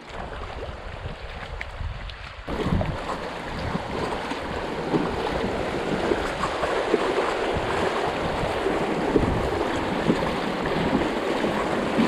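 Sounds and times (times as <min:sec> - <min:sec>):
water splashing against hull: 0:00.0 - 0:12.0.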